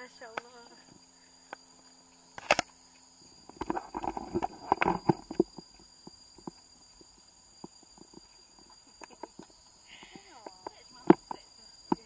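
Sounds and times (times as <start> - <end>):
high insect drone: 0.0 - 12.0
footsteps on forest trail: 0.5 - 12.0.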